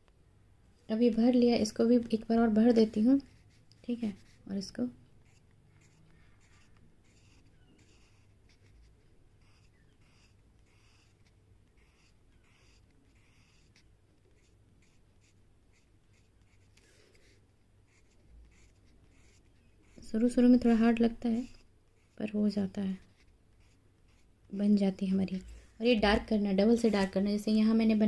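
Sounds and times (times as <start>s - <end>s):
pencil scratching on paper: 1.4s - 28.0s.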